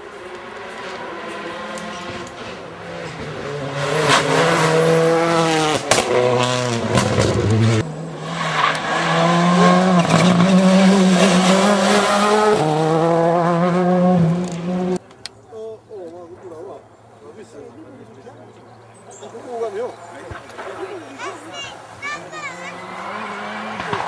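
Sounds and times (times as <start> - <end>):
rally car engines at full throttle: 0.0 - 15.1, 18.0 - 24.0.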